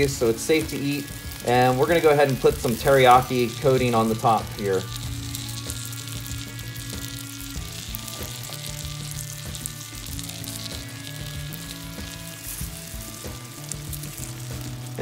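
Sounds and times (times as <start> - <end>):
background music: 0.0 - 15.0
chicken sizzling on a grill: 0.0 - 15.0
sauce basting with a brush: 0.0 - 15.0.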